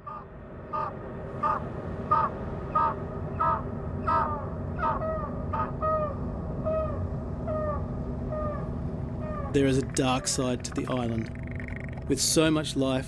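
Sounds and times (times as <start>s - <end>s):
seabird cawing: 0.0s - 12.2s
steady low rumble: 0.0s - 13.0s.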